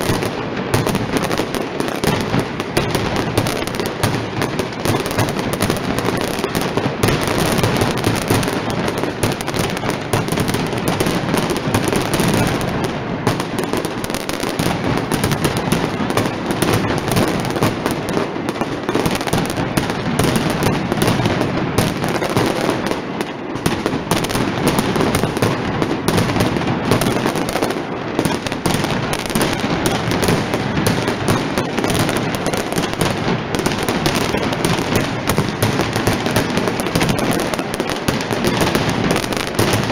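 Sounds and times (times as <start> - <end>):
firecrackers banging: 0.0 - 39.9.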